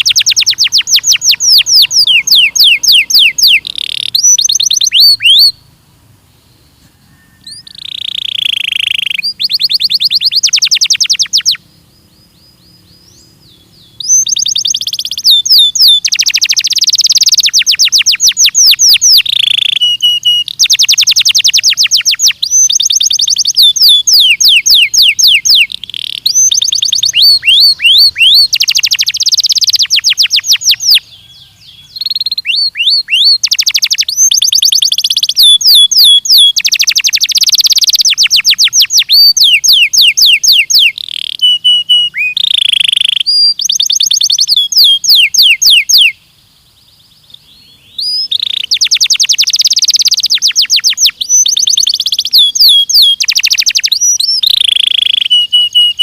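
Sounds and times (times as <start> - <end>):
canary singing trills: 0.0 - 5.7, 6.4 - 56.0.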